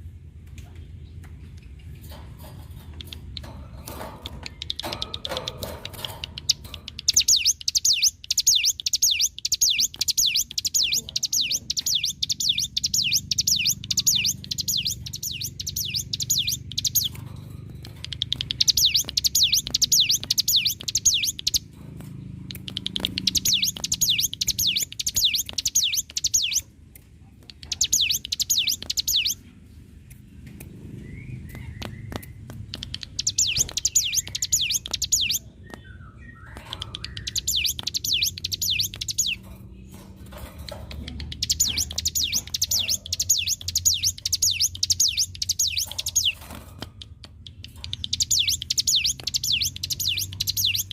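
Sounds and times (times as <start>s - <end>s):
songbird rapid rattling song: 0.7s - 50.9s.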